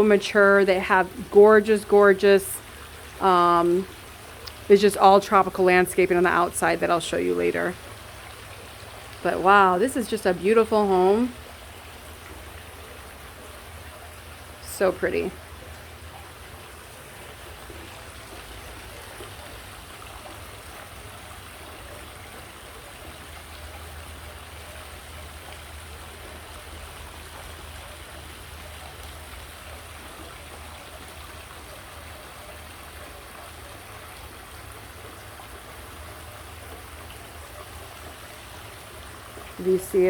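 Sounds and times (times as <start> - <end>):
water falling and splashing: 0.0 - 40.0.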